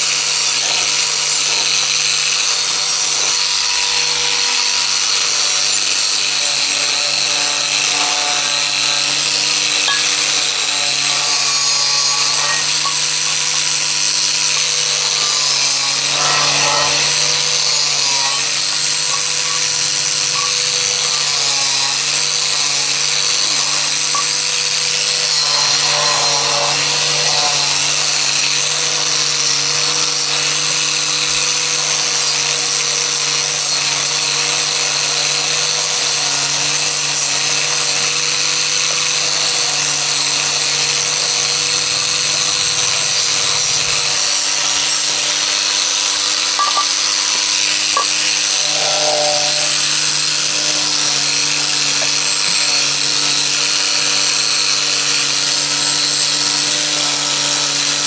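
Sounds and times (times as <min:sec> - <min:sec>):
power tool motor humming: 0:00.0 - 0:58.0.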